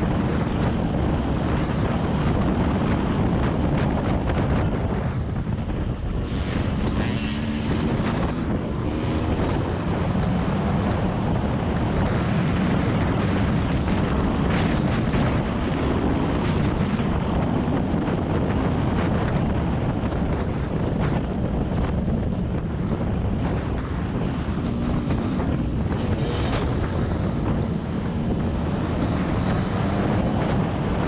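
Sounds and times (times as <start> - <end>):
off-road vehicle engine: 0.0 - 31.0
wind buffeting microphone: 0.0 - 31.0.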